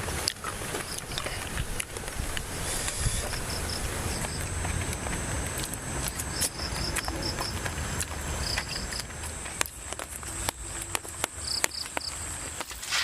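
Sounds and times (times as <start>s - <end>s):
low steady rumble: 0.0s - 12.6s
insects trilling and chirping: 0.0s - 13.0s.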